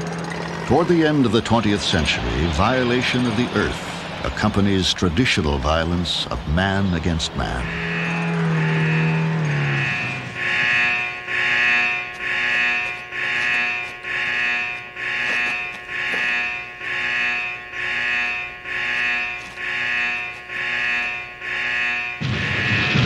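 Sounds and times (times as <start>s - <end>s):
pulsing buzzing alarm: 0.0s - 4.3s, 6.8s - 23.0s.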